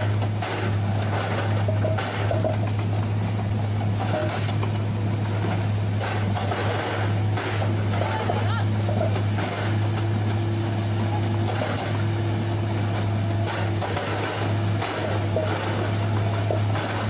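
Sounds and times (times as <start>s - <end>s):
machine engine hum: 0.0s - 17.0s.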